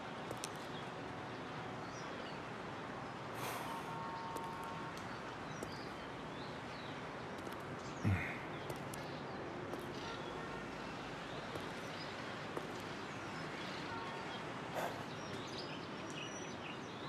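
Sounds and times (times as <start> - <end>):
traffic hum: 0.0 - 17.0.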